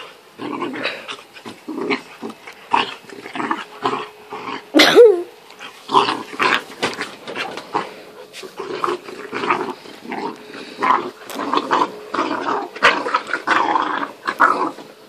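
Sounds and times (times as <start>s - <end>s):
dogs growling and snarling: 0.0s - 4.9s, 5.6s - 15.0s.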